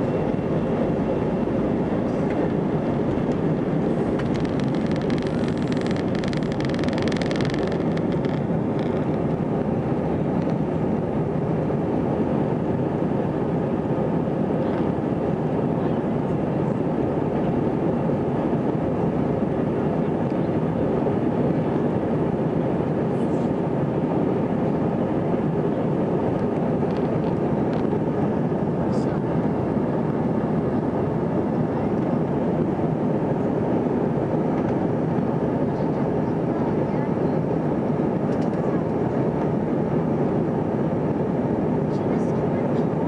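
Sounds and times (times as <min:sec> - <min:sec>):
jet engine cabin rumble: 0:00.0 - 0:43.0.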